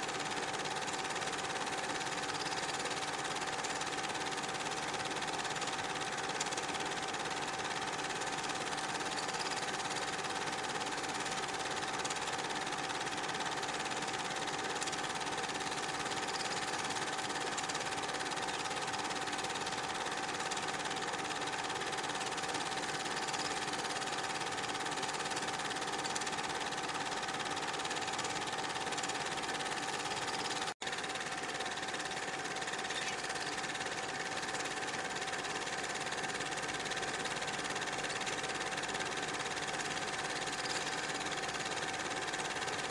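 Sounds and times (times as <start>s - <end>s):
film projector whirring and clattering: 0.0s - 42.9s.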